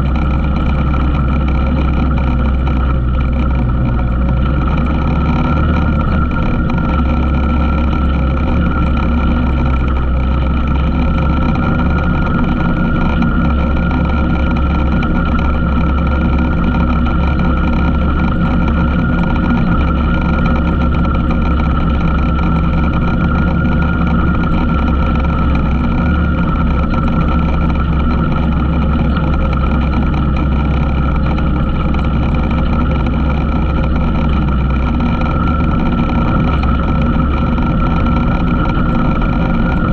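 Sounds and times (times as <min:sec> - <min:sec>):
atv engine whine: 0:00.0 - 0:39.9.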